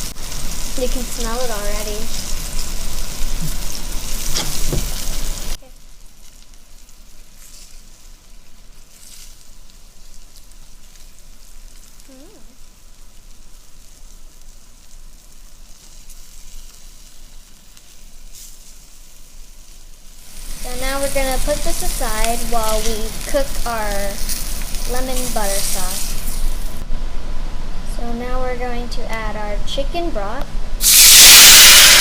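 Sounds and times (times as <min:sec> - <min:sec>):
fish sizzling in a pan: 0:00.0 - 0:26.8, 0:30.8 - 0:32.0.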